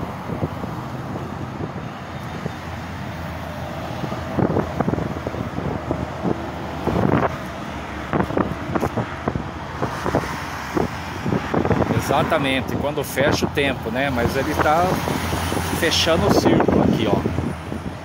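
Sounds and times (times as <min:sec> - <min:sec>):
road traffic hum: 0:00.0 - 0:18.0
wind buffeting microphone: 0:00.0 - 0:18.0.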